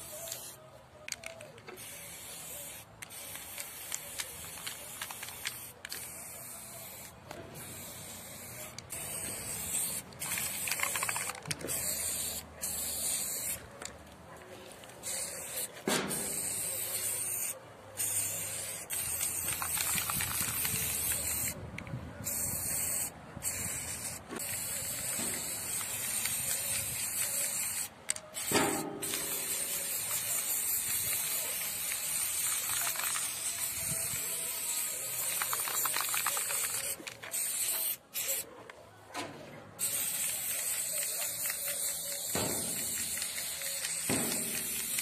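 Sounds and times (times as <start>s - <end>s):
spray paint can hissing: 0.0s - 14.0s, 14.7s - 38.4s, 39.8s - 45.0s.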